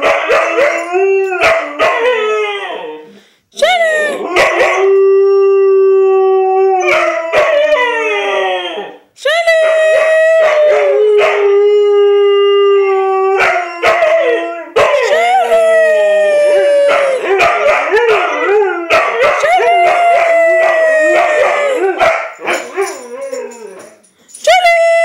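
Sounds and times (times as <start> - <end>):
dogs howling: 0.0 - 3.1, 4.2 - 9.0, 9.6 - 24.0.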